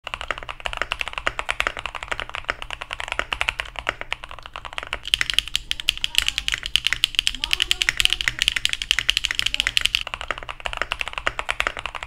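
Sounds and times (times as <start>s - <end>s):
mechanical keyboard typing: 0.1s - 12.0s.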